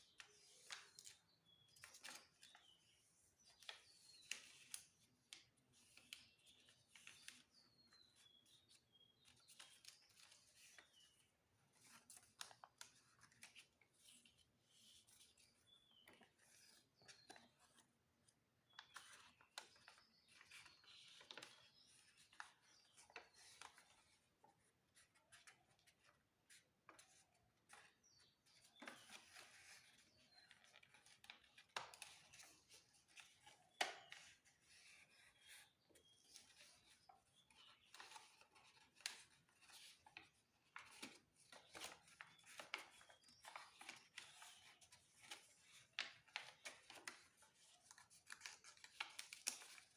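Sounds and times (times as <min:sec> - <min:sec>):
paper being folded and creased: 0:00.1 - 0:49.9.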